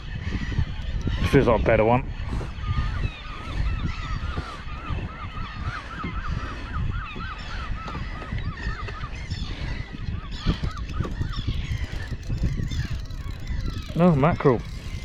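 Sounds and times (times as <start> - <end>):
seabirds calling: 0.0 - 15.0.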